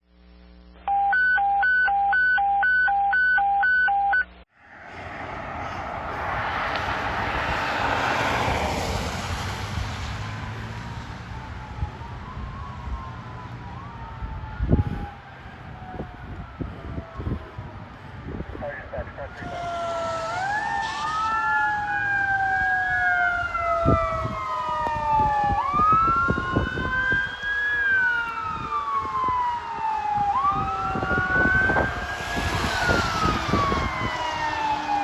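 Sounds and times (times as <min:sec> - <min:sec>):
wailing siren: 0:00.9 - 0:35.0
fire truck engine passing: 0:04.6 - 0:35.0.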